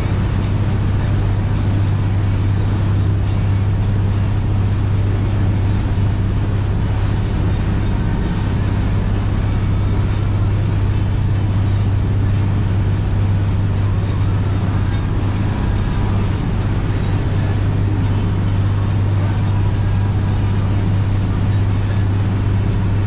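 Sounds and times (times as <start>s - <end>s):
motorboat engine running: 0.0s - 23.0s.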